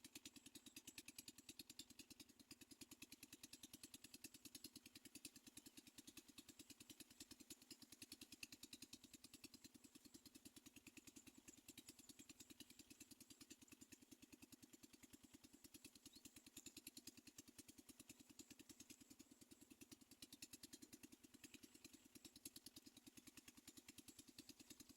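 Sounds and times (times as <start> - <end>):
small engine idling: 0.0 - 24.9.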